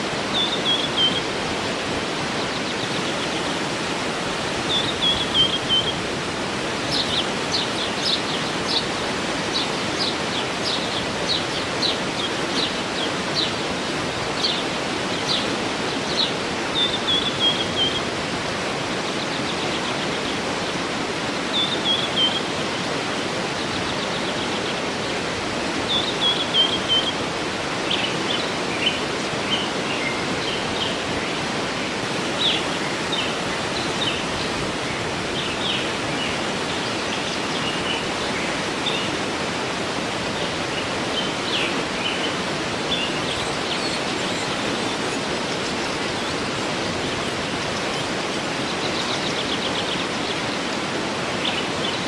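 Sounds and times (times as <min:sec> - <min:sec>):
waterfall rushing: 0:00.0 - 0:52.0
birds chirping and trilling: 0:00.2 - 0:39.2, 0:40.4 - 0:52.0.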